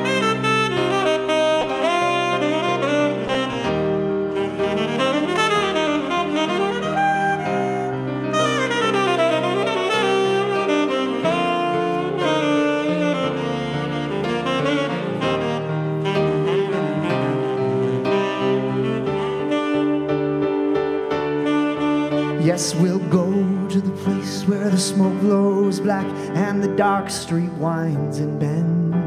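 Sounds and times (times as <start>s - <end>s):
tenor saxophone jazz solo: 0.0s - 27.7s
sustained keyboard chords: 0.0s - 29.0s.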